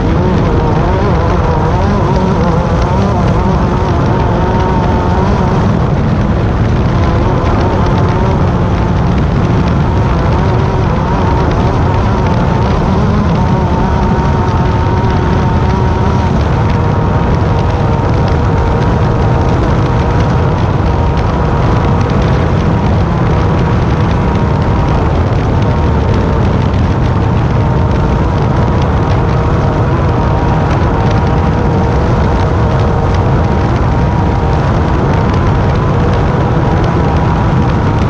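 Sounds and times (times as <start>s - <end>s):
low rumble of wind and terrain: 0.0s - 38.0s
race car engine drone: 0.0s - 38.0s.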